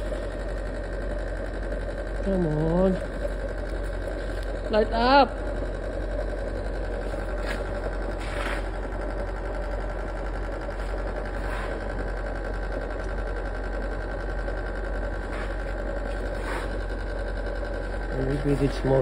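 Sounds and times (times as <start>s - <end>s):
small electric motor humming: 0.0s - 19.0s.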